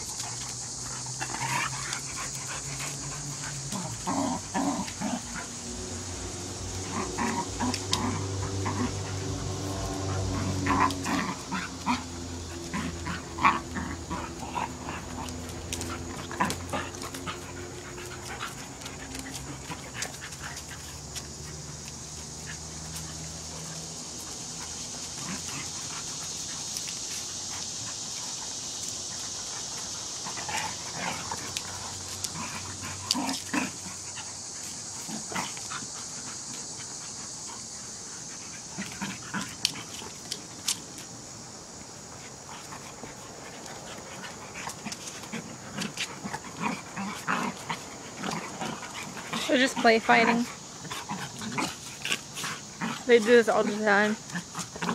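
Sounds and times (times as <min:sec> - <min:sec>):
dogs panting: 0:00.0 - 0:54.9
paws scuffling on stone: 0:00.0 - 0:54.9.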